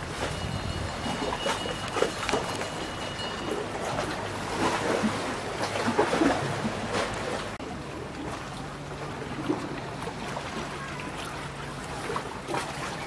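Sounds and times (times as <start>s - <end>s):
water lapping against rocks: 0.0s - 13.0s.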